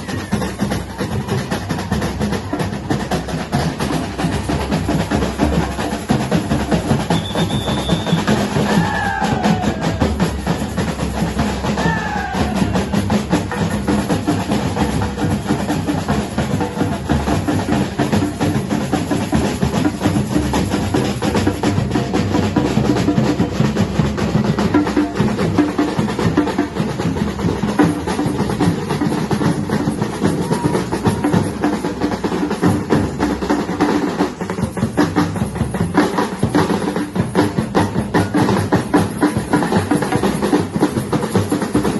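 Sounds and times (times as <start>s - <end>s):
samba percussion ensemble: 0.0s - 41.9s.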